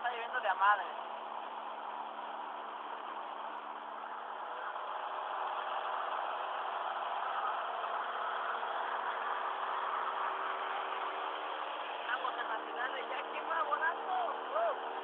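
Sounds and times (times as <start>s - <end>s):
aircraft propeller engine droning: 0.0s - 15.0s.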